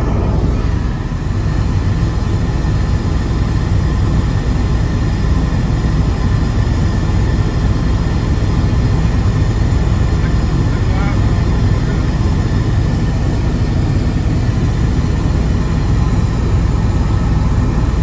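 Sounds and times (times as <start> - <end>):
helicopter cabin drone: 0.0 - 18.0.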